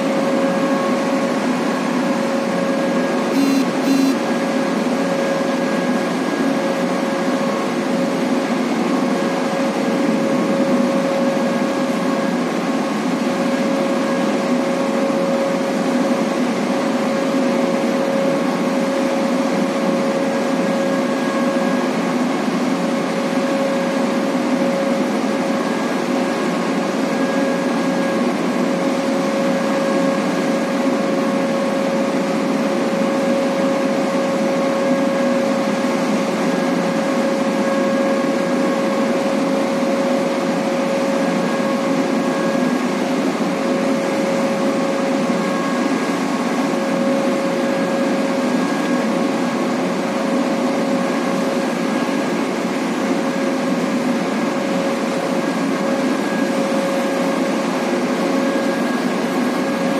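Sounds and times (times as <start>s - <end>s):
heavy machinery drone: 0.0s - 59.9s
steady machine whine: 0.0s - 59.9s.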